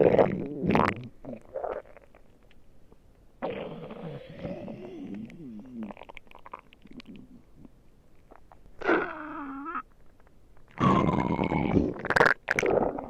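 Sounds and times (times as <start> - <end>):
stomach growling: 0.0 - 2.4, 3.4 - 13.0.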